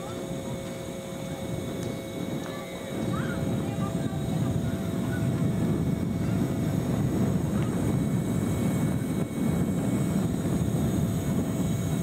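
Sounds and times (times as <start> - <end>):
propeller engine drone: 0.0 - 12.0
wind noise: 0.0 - 12.0.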